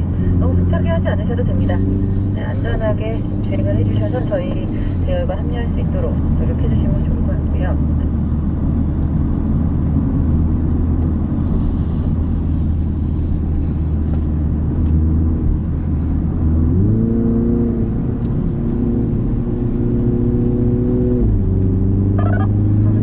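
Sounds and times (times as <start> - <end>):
car engine under load: 0.0 - 23.0.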